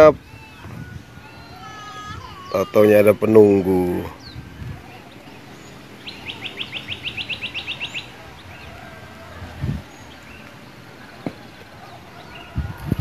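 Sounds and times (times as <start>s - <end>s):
bird calling sharp notes: 0.0s - 12.6s.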